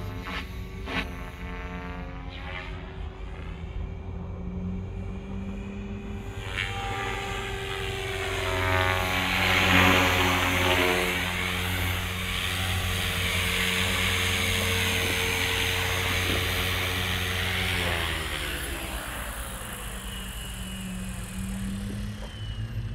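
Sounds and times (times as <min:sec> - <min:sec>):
rc helicopter motor and rotor whine: 0:00.0 - 0:22.9.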